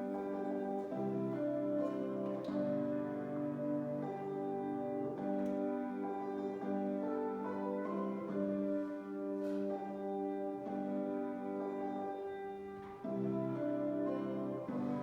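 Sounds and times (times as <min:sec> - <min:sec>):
slow held chords music: 0:00.0 - 0:15.0.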